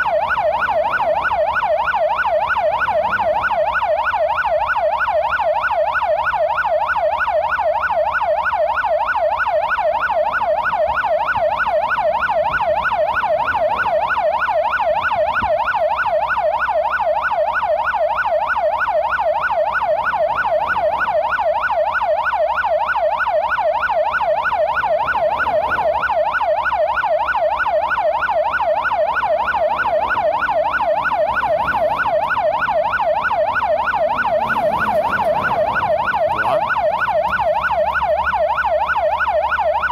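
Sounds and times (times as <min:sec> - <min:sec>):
emergency siren yelping: 0:00.0 - 0:39.9.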